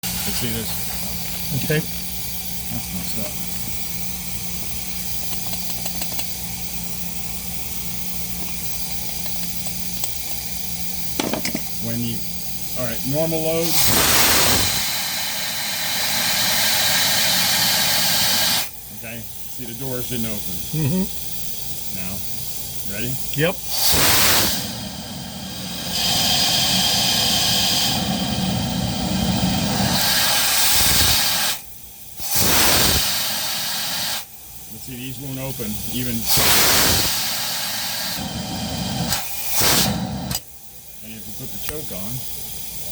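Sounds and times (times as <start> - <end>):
air rushing through carburetor: 0.0 - 42.9
flow bench hum: 0.0 - 42.9.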